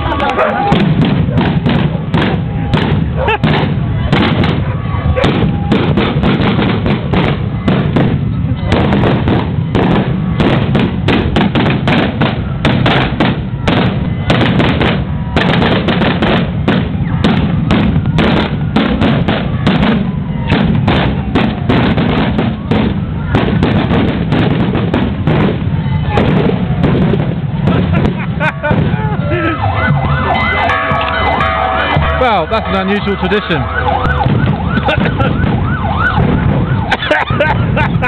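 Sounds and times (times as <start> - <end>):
firecrackers cracking: 0.0 - 38.0.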